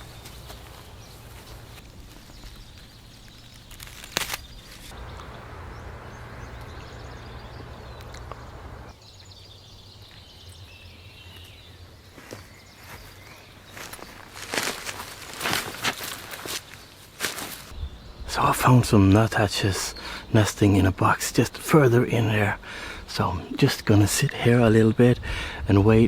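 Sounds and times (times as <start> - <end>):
small birds calling: 0.0 - 26.0.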